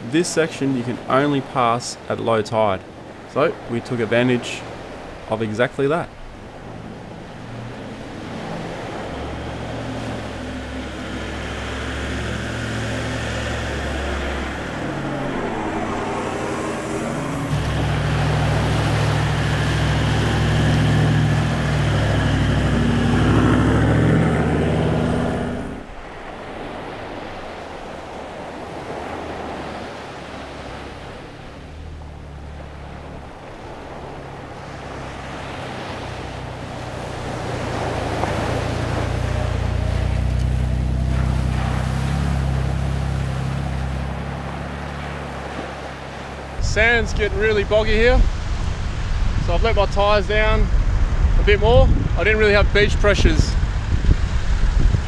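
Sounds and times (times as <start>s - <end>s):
truck engine driving on sand: 0.0s - 55.0s
second vehicle engine approaching: 3.0s - 55.0s.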